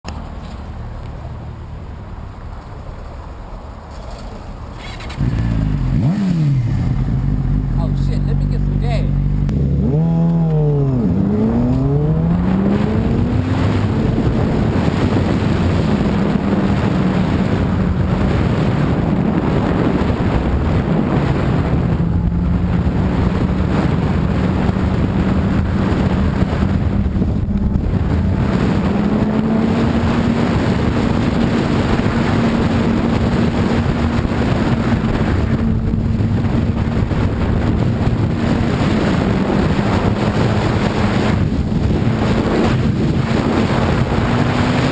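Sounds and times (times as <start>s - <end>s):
motorcycle engine revving high: 4.8s - 44.9s
wind on microphone: 4.8s - 44.9s.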